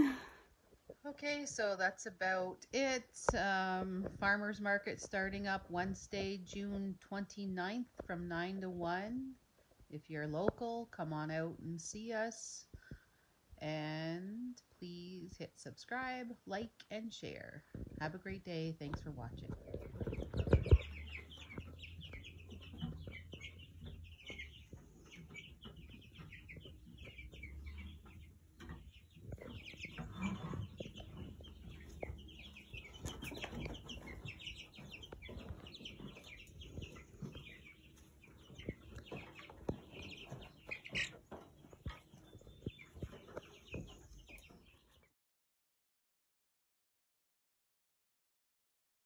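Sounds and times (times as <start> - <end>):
chicks peeping and clucking: 0.0 - 45.1.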